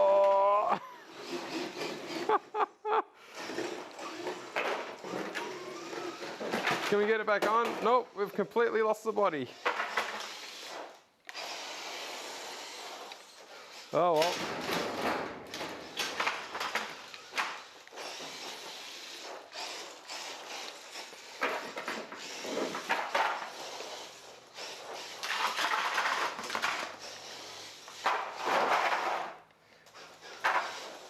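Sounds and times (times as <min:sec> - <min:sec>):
rc car tyres on surface: 0:00.0 - 0:02.6, 0:03.3 - 0:31.0.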